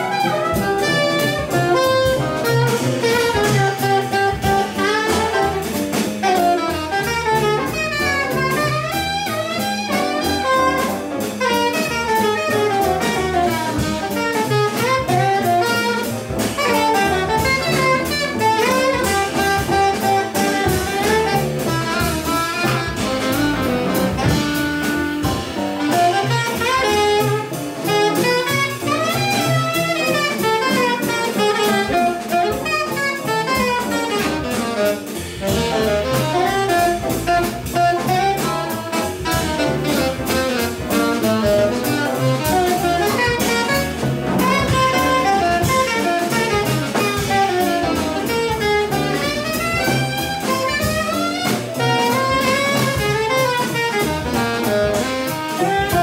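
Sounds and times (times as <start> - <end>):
double bass: 0.0 - 56.0
drum kit: 0.0 - 56.0
piano: 0.0 - 56.0
saxophone: 0.0 - 56.0.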